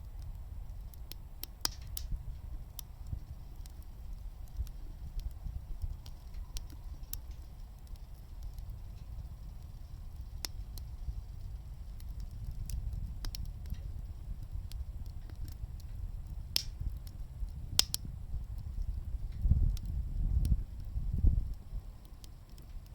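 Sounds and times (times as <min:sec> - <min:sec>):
stove low rumble: 0:00.0 - 0:22.9
wood crackling and popping: 0:00.0 - 0:22.9.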